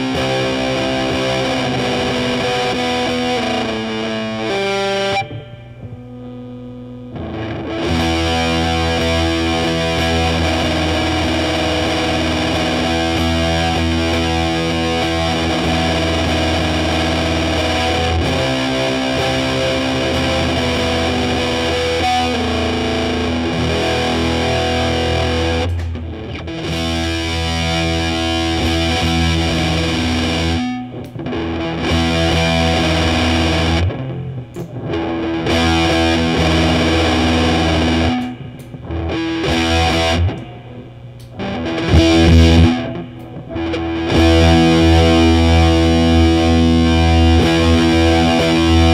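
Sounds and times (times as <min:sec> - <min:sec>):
distorted electric guitar chords: 0:00.0 - 0:48.9.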